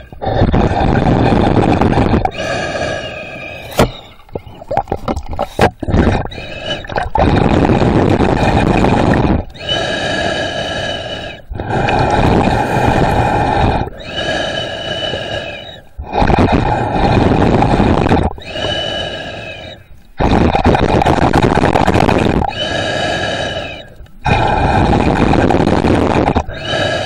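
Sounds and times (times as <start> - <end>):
breathing through underwater gear: 0.0 - 27.0.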